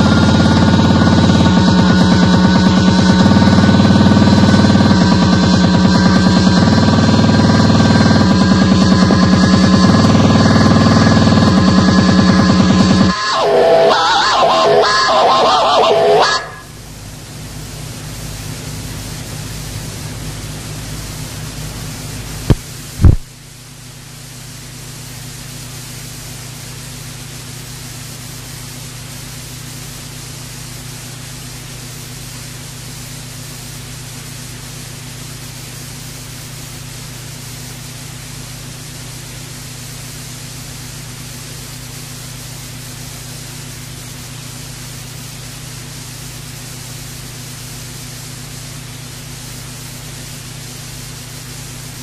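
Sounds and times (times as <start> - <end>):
low electrical hum: 0.0 - 52.0
tape hiss: 0.0 - 52.0.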